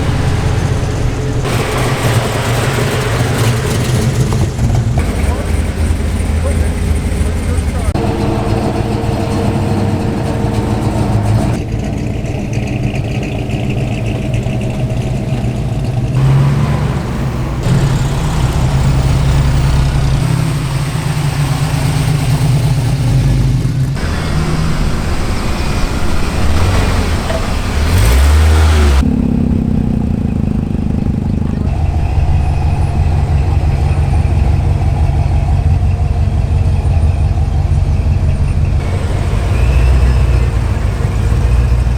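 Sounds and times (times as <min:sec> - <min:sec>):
car engine revving: 0:00.0 - 0:41.9
car engines running: 0:00.0 - 0:41.9.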